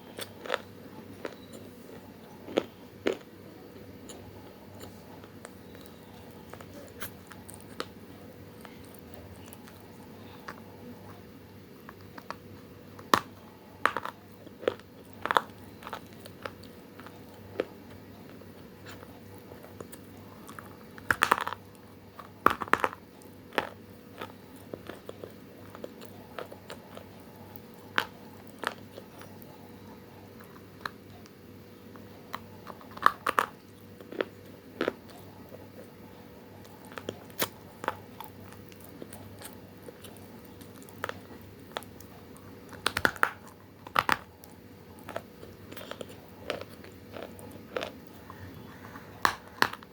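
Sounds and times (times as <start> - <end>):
crunching clay chewing: 0.0 - 49.9
faint steady hum: 0.0 - 49.9.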